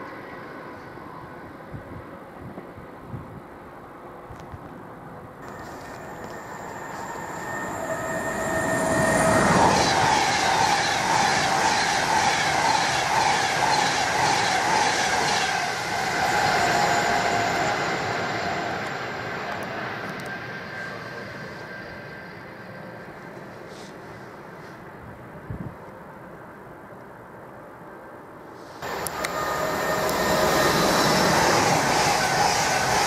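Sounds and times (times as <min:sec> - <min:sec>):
electric train passing at speed: 0:00.0 - 0:33.0.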